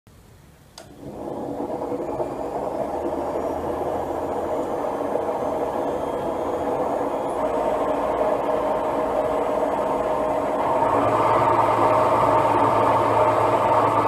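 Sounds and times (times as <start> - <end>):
washing machine drone: 0.2 - 14.0.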